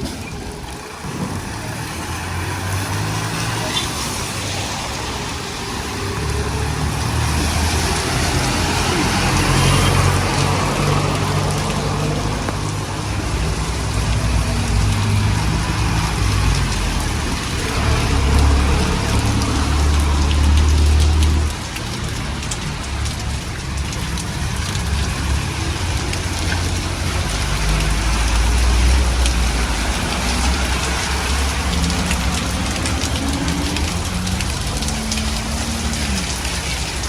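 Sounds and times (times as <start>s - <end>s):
heavy rain hissing: 0.0s - 37.0s
road traffic rumble: 0.0s - 37.0s.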